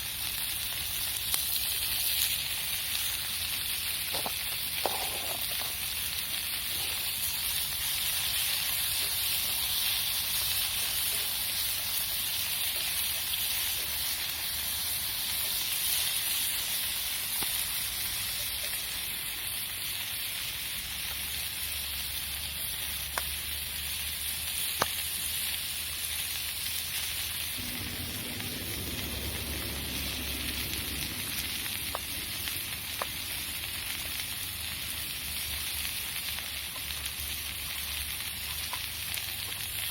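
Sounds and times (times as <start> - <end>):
campfire hissing: 0.0 - 39.9
fire pops and crackles: 0.0 - 39.9.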